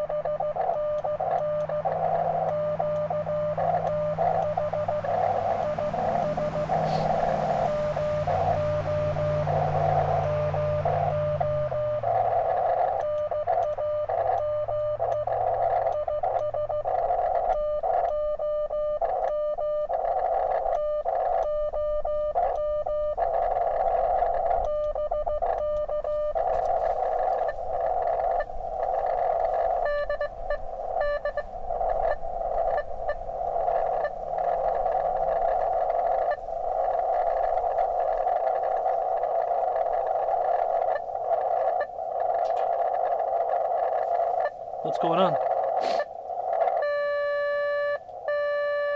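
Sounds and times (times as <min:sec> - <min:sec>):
morse code tone: 0:00.0 - 0:48.9
radio receiver hiss: 0:00.0 - 0:48.9
weak morse code reply: 0:00.0 - 0:48.9.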